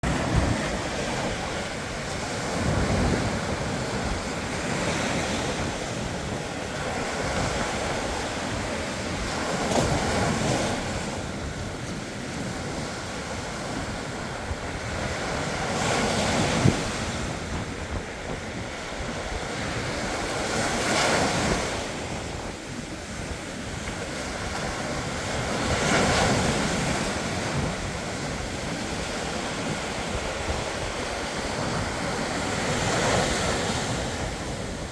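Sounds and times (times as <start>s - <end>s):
ocean waves breaking on beach: 0.0s - 34.9s
wind buffeting microphone: 0.0s - 34.9s.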